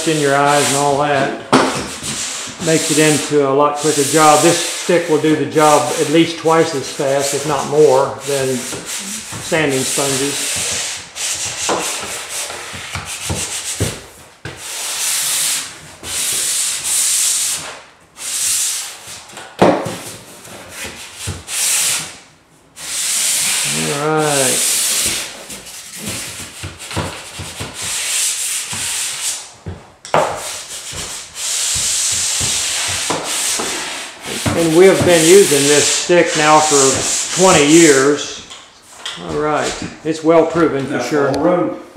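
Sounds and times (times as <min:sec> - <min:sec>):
sandpaper rubbing on drywall: 0:00.0 - 0:19.3, 0:20.0 - 0:22.2, 0:22.8 - 0:29.6, 0:30.3 - 0:38.4.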